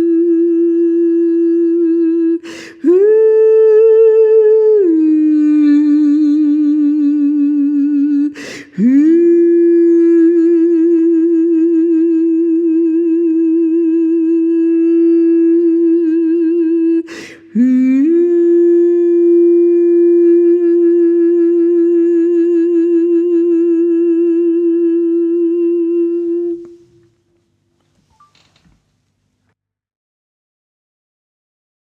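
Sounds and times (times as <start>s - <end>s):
woman singing long vocal tones: 0.0s - 27.0s.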